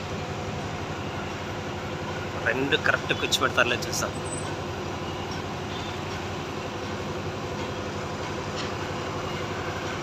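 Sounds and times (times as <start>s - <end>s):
diesel crane engine droning: 0.0s - 10.0s.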